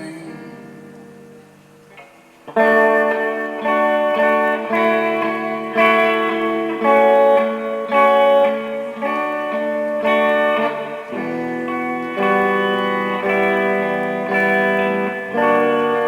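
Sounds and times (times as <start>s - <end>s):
plucked guitar notes and chords: 0.0s - 16.0s.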